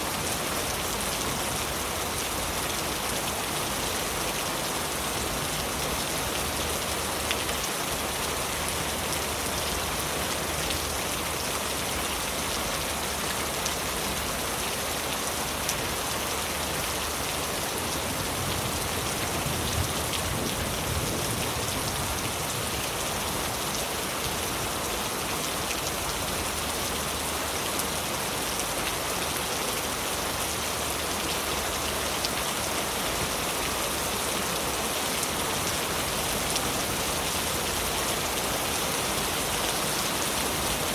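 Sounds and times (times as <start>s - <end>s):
heavy rain on leaves: 0.0s - 40.9s.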